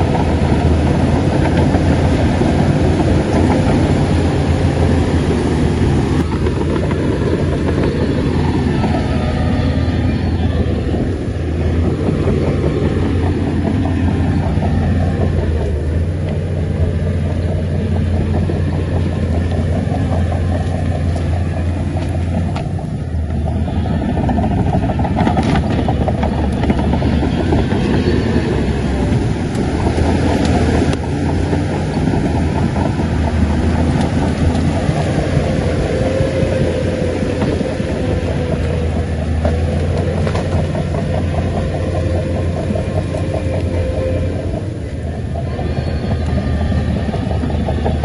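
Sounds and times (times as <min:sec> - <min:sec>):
bulldozer diesel engine running: 0:00.0 - 0:48.0
steel tracks clanking: 0:00.0 - 0:48.0.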